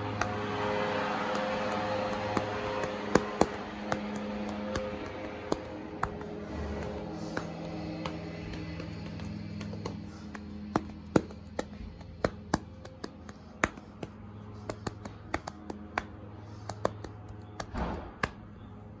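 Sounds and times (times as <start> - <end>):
low steady hum: 0.0 - 19.0
hand patting horse's neck: 1.2 - 18.5.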